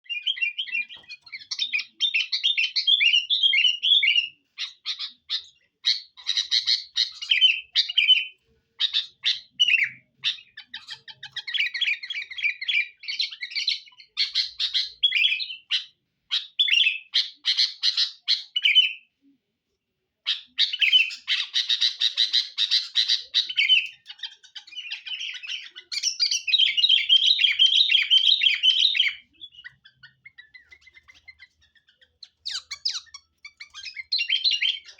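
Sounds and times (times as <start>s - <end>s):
bulbul singing chirps and warbles: 0.0s - 19.1s, 20.3s - 34.9s.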